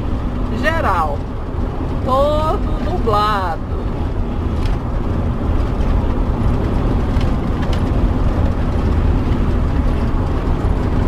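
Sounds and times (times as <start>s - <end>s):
motorhome engine and tyre rumble: 0.0s - 11.0s.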